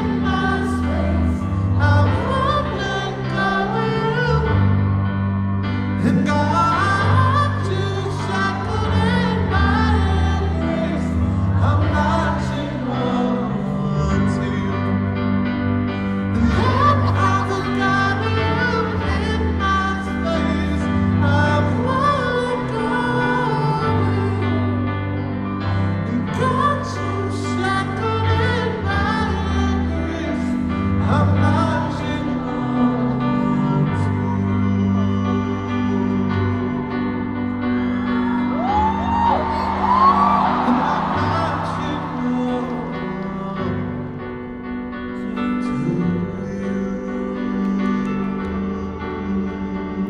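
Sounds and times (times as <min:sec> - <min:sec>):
man singing a ballad: 0:00.0 - 0:05.0, 0:05.7 - 0:50.0
keyboard chords: 0:00.0 - 0:50.0.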